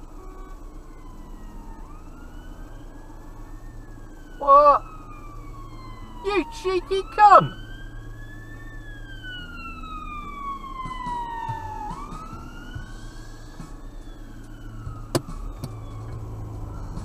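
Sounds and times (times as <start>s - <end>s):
ambulance siren wailing: 0.0s - 17.0s
low hum: 0.0s - 17.0s.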